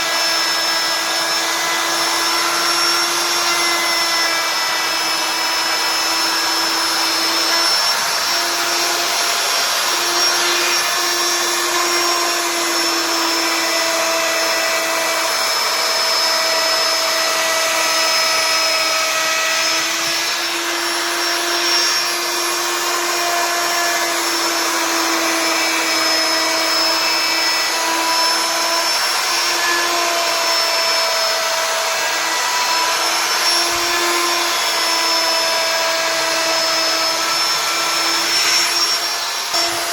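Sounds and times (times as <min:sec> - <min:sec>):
router spindle carving wood: 0:00.0 - 0:39.9.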